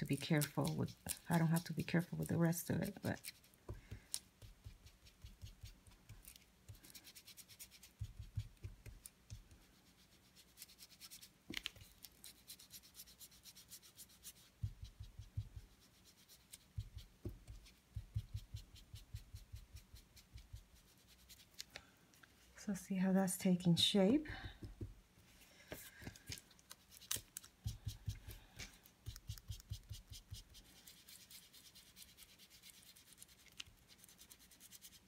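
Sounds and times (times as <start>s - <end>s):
foam tool rubbing on cardstock: 0.0s - 11.3s, 12.2s - 21.6s, 26.7s - 35.0s.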